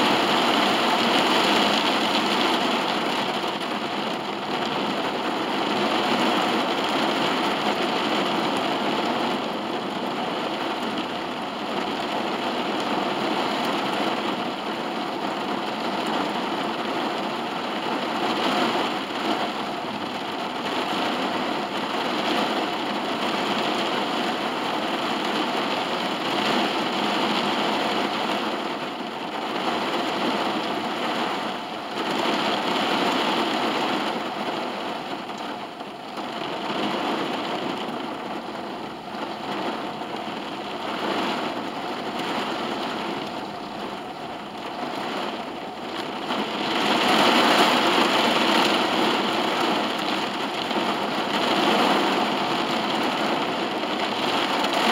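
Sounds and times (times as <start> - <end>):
heavy rain on car roof: 0.0 - 54.9.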